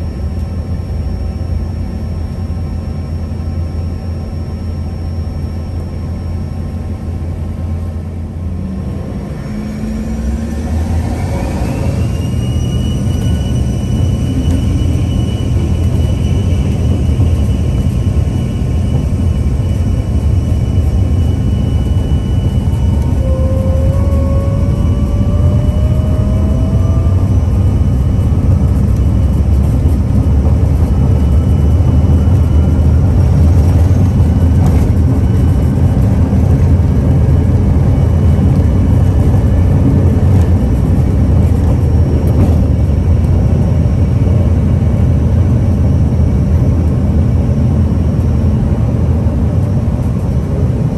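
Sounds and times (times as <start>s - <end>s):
jet engine low rumble: 0.0s - 50.9s
whine rising in pitch: 0.0s - 50.9s.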